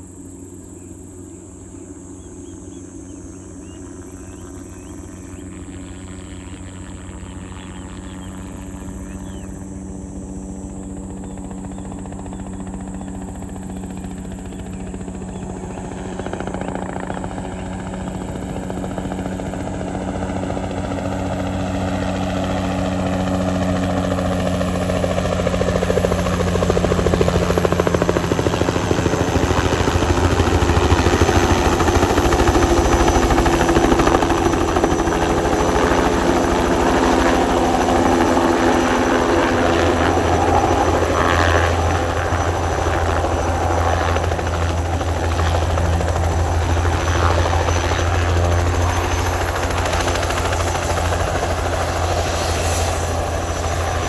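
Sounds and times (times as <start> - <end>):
helicopter rotor and engine hum: 0.0 - 54.0.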